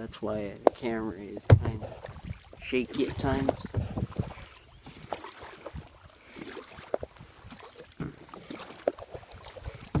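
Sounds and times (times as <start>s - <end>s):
water splashing off paddles: 0.6s - 10.0s.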